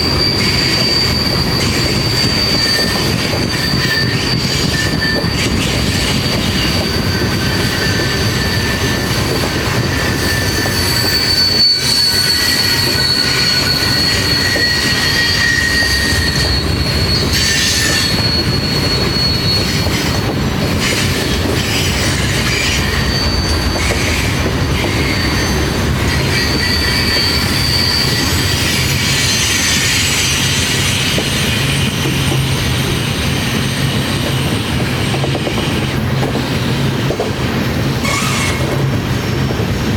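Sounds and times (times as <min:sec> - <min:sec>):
freight train cars rumbling: 0:00.0 - 0:39.9
steel wheels squealing on rails: 0:00.0 - 0:39.9.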